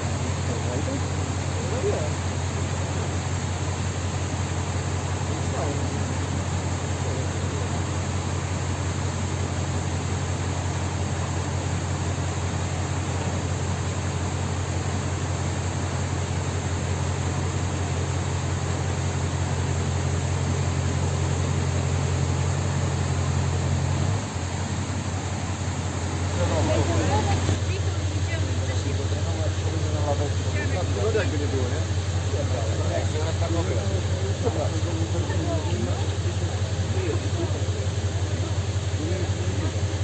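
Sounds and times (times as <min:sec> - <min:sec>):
constant hiss: 0:00.0 - 0:40.0
low engine drone: 0:00.0 - 0:40.0.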